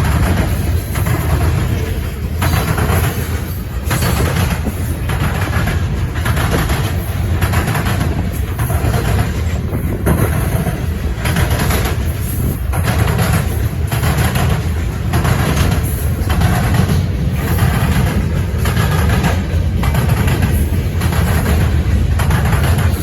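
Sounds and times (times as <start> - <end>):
rushing of passing freight cars: 0.0 - 23.0
train wheels rumbling on rail: 0.0 - 23.0.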